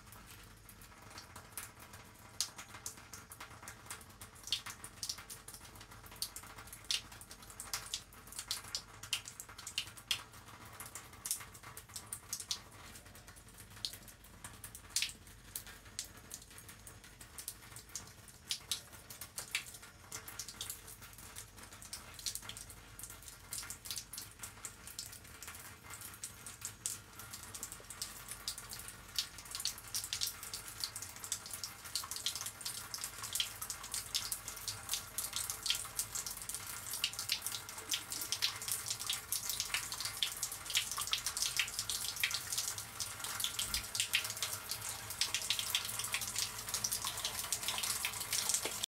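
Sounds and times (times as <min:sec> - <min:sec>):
water dripping and trickling: 0:00.0 - 0:48.9.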